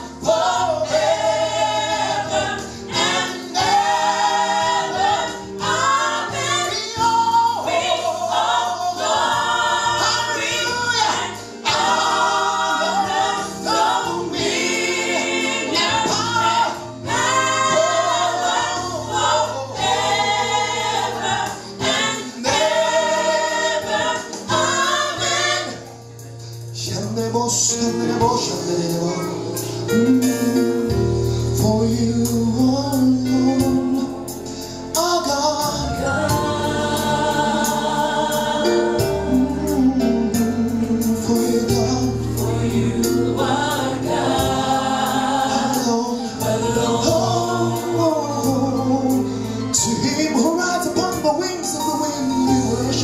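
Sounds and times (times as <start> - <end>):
choir singing: 0.0 - 26.2, 31.7 - 53.0
low instrumental accompaniment: 0.0 - 53.0.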